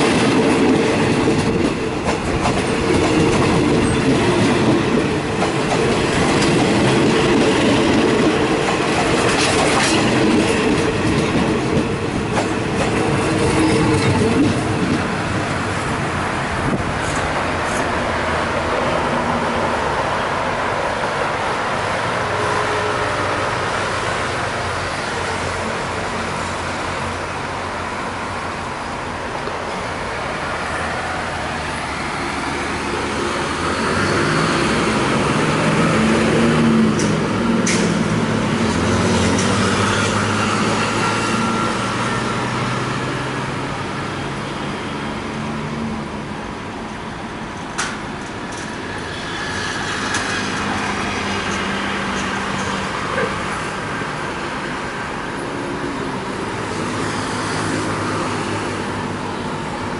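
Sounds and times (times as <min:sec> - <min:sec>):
rumble of wheels on rails: 0:00.0 - 0:59.9.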